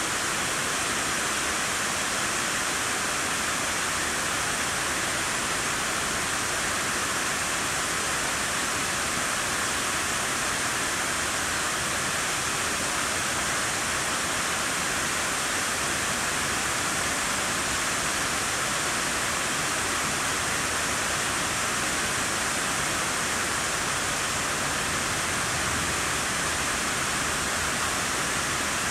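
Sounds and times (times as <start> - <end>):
cascading water rushing: 0.0 - 28.9.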